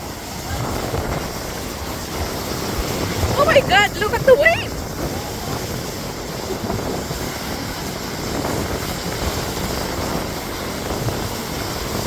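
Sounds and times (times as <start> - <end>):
waves breaking: 0.0 - 12.0
wind buffeting microphone: 0.0 - 12.0.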